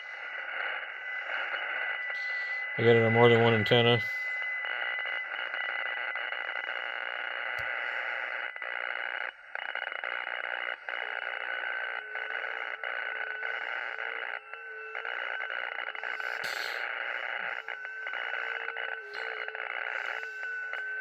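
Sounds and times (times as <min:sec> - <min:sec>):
faint steady tones: 0:00.0 - 0:21.0
radio interference noise: 0:00.0 - 0:21.0.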